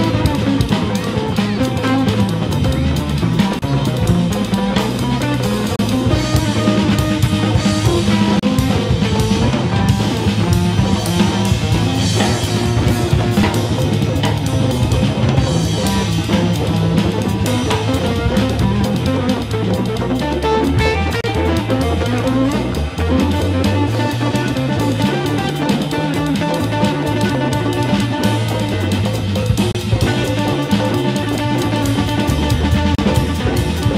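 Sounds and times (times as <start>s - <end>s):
bass: 0.0s - 33.9s
drum kit: 0.0s - 33.9s
guitar: 0.0s - 33.9s.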